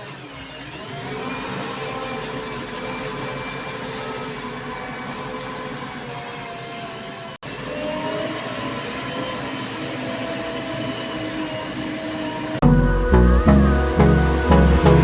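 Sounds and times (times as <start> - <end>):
earthmoving machine engine running: 0.0 - 15.0.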